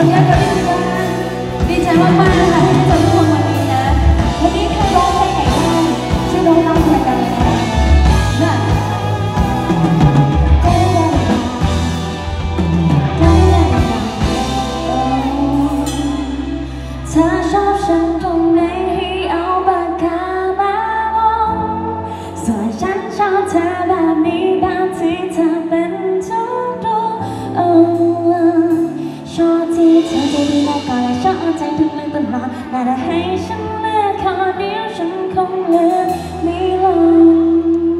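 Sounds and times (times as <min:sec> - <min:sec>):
woman singing into a microphone: 0:00.0 - 0:12.3, 0:12.9 - 0:37.9
live pop band playing: 0:00.0 - 0:37.9.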